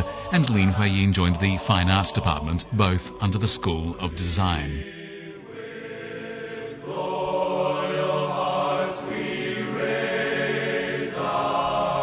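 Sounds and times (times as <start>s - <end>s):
slow choir-like music: 0.0s - 12.0s.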